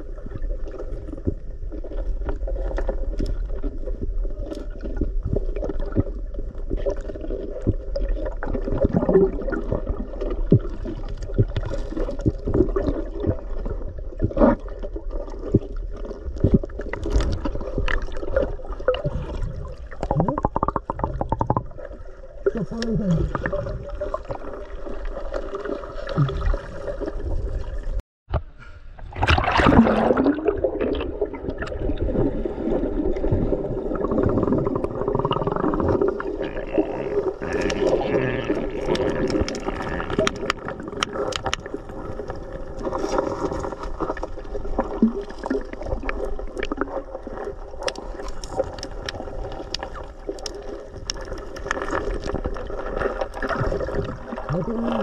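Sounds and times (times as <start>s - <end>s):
muffled underwater river rushing: 0.0s - 55.0s.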